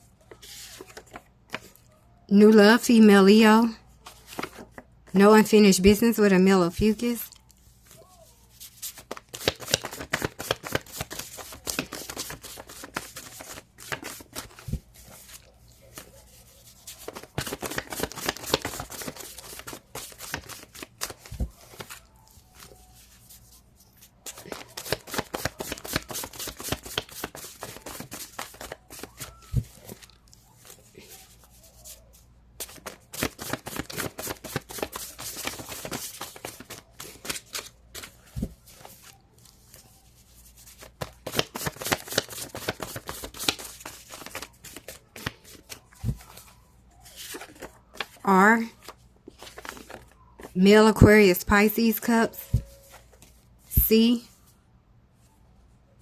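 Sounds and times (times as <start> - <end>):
cards being shuffled: 0.3 - 1.7, 4.0 - 4.8, 7.3 - 48.2, 48.8 - 50.6.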